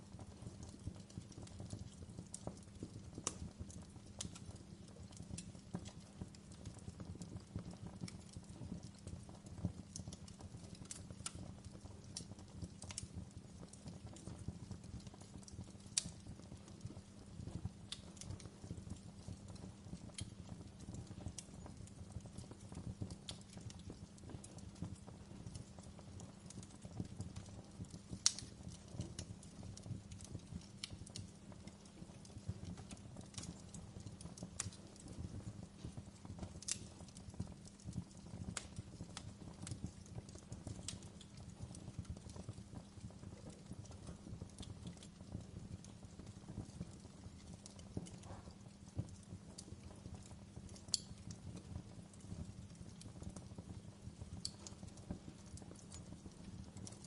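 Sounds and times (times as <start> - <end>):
campfire rumble: 0.0 - 57.0
fire popping and snapping: 0.0 - 57.0.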